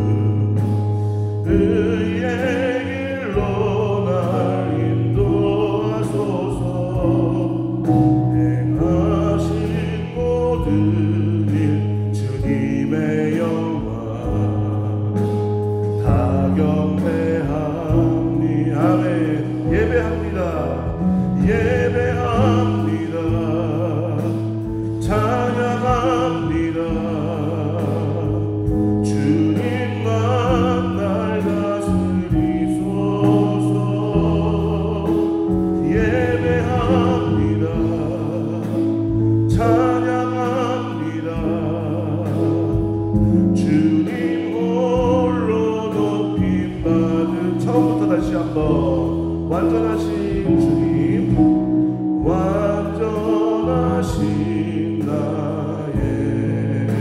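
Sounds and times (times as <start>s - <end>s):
worship band playing: 0.0s - 57.0s.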